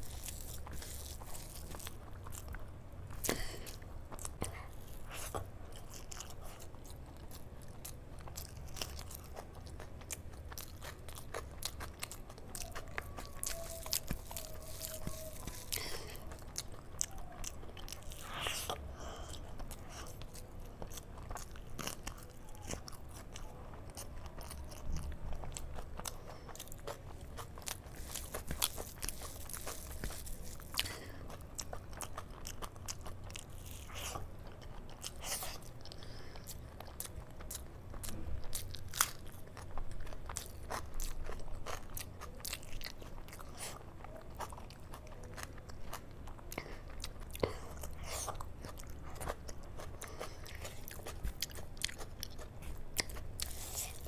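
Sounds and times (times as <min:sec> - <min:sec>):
crunchy bites of salad: 0:00.0 - 0:54.0
person chewing food: 0:00.0 - 0:54.0.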